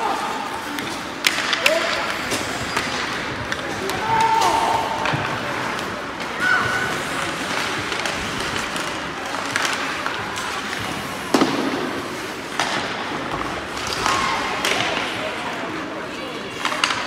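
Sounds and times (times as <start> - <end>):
hockey sticks and puck knocking: 0.0 - 15.2, 16.6 - 17.0
skates scraping ice: 0.0 - 17.0.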